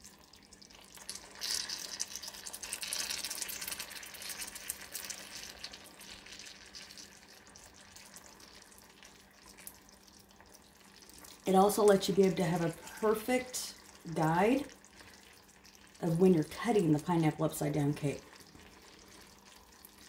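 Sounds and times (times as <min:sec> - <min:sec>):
caramel sizzling in a skillet: 0:00.0 - 0:20.0
faint steady hum: 0:00.0 - 0:20.0.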